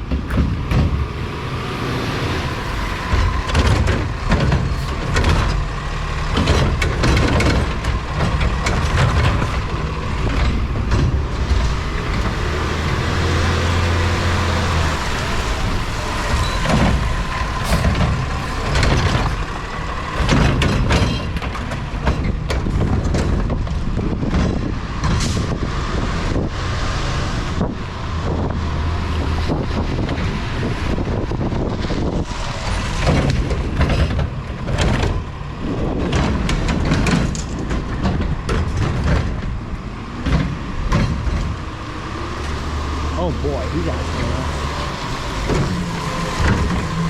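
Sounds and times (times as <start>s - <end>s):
knocks and clatters: 0.0s - 26.4s, 27.5s - 47.0s
truck engine running: 0.0s - 47.0s.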